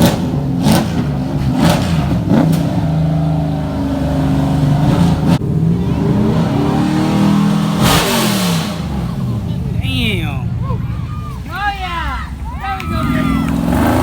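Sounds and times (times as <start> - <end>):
car engine revving: 0.0 - 11.0, 12.3 - 14.0.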